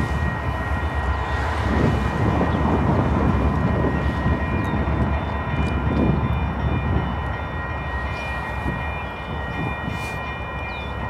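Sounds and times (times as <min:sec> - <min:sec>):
freight train rumbling: 0:00.0 - 0:11.0.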